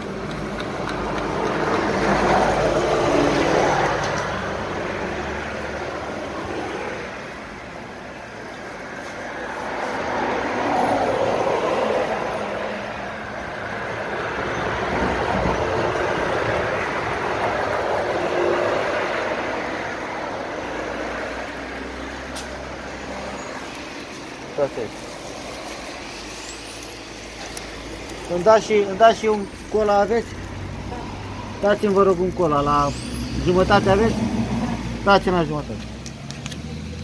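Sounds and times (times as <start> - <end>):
road traffic passing: 0.0 - 37.0.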